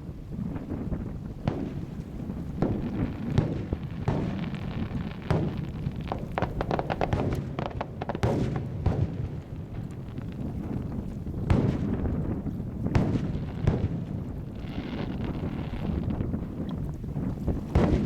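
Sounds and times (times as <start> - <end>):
fireworks booms and bangs: 0.2 - 18.0.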